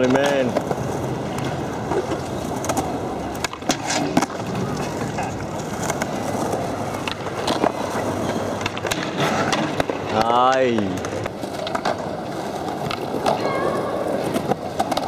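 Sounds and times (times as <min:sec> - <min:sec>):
skateboard clacks: 0:00.0 - 0:15.0
skateboard wheels rolling: 0:00.0 - 0:15.0.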